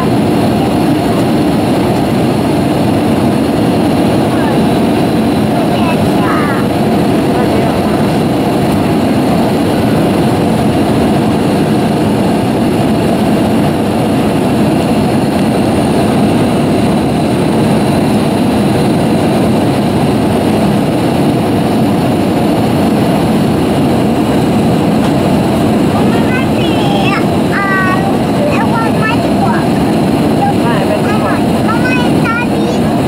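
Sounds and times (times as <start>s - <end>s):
jet cabin engine and airflow rush: 0.0s - 33.0s.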